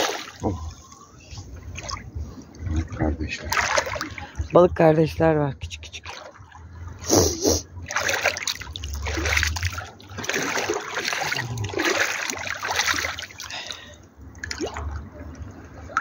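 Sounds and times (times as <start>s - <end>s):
seawater splashing around legs: 0.0s - 4.5s, 5.8s - 16.0s.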